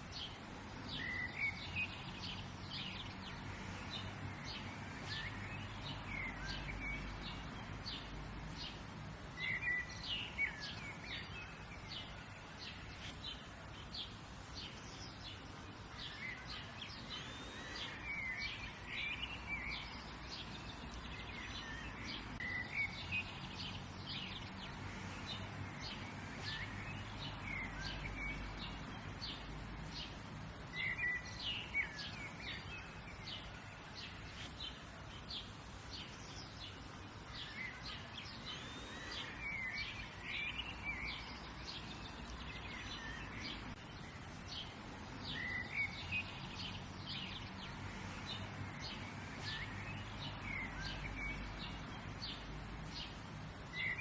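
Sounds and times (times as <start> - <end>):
small birds chirping: 0.0 - 54.0
steady background noise: 0.0 - 54.0.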